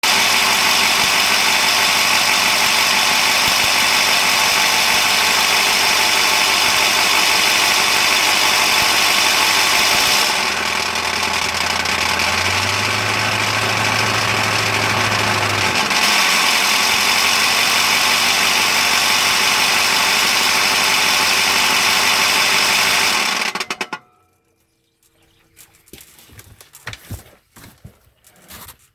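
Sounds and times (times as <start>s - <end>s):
diesel engine idling roughly: 0.0s - 24.0s.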